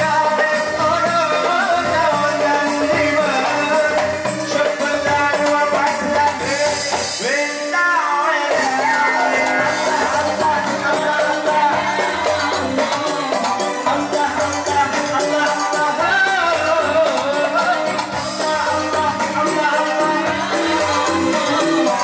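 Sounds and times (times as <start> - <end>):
song with sung melody and percussion: 0.0 - 22.0.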